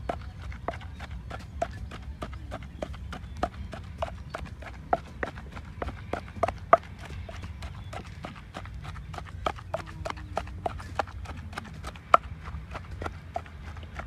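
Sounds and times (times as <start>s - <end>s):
pestle pounding in a mortar: 0.0s - 14.0s.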